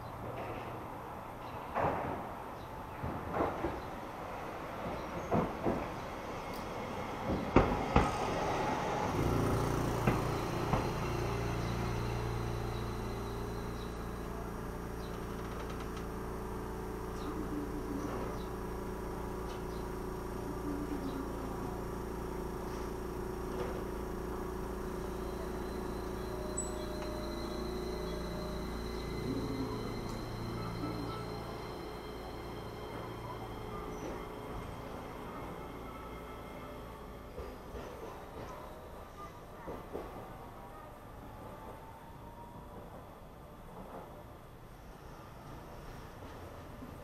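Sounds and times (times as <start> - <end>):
tram wheels clacking over rails: 0.0 - 40.6
tram humming: 0.0 - 47.0.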